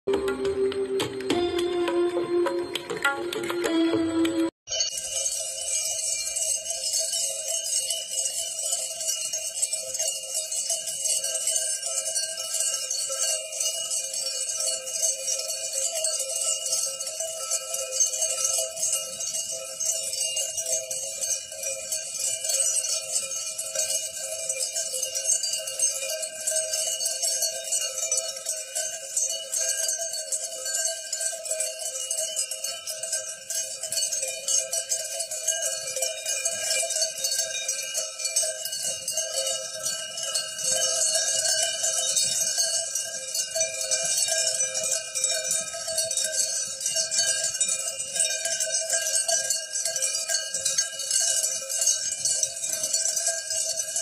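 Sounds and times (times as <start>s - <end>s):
sheep bells jingling: 4.7s - 54.0s.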